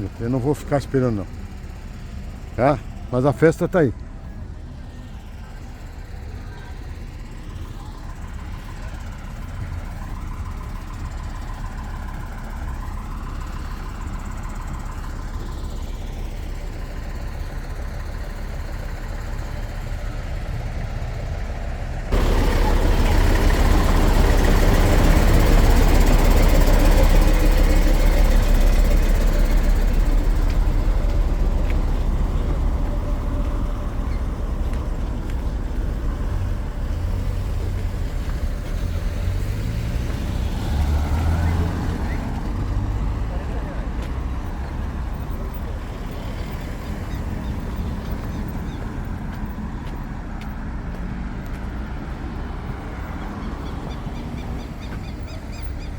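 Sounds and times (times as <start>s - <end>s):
vehicle engine rumble: 0.0s - 55.9s.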